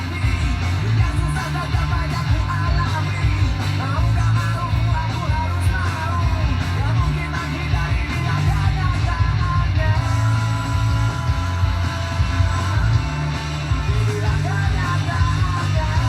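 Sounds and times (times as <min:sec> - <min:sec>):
rock song with guitar and vocals: 0:00.0 - 0:16.0.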